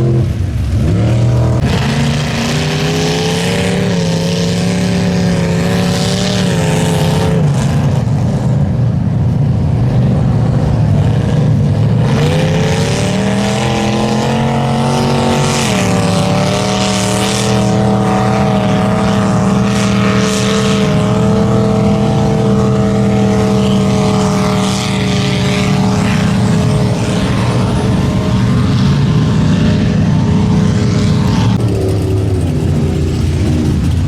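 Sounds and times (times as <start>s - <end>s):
truck engine revving high: 0.0s - 34.0s.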